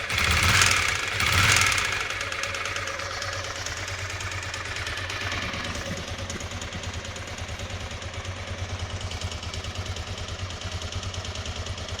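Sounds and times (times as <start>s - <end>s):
motorcycle engine idling with clatter: 0.0s - 12.0s.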